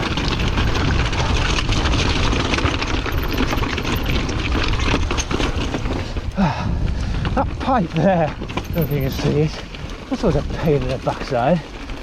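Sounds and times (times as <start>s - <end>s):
bike knocks and rattles: 0.0s - 6.4s, 7.0s - 12.0s
tyres on rough ground: 0.0s - 12.0s
wind rumble on microphone: 0.0s - 12.0s.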